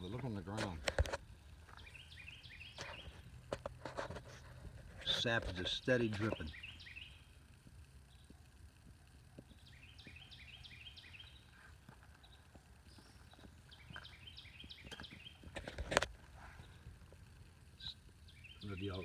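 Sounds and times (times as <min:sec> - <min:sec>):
faint outdoor background noise: 0:00.0 - 0:19.0
small bird singing: 0:01.6 - 0:03.7, 0:05.0 - 0:19.0.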